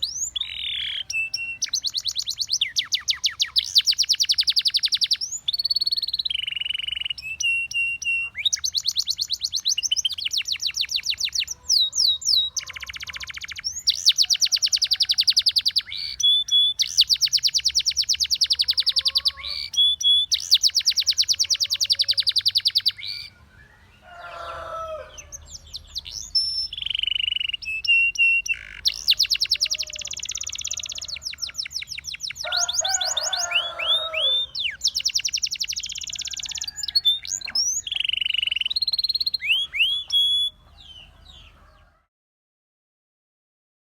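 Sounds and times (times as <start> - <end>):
canary singing trills: 0.0 - 42.0.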